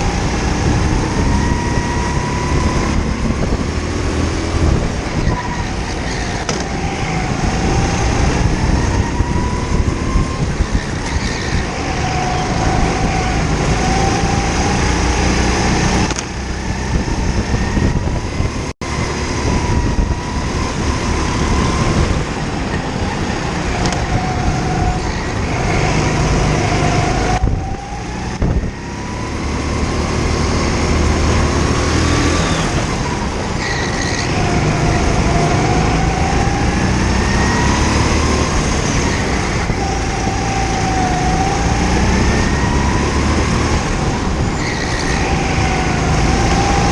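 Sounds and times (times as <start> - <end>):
kart engine running hard: 0.0 - 46.9.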